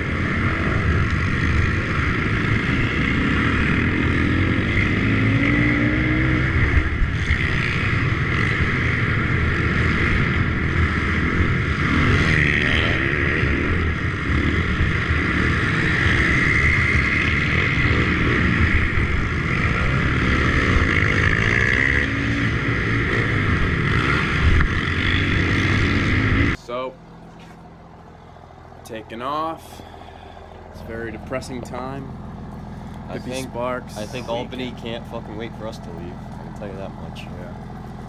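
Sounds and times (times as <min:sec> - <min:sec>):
pit bike engines revving: 0:00.0 - 0:38.0.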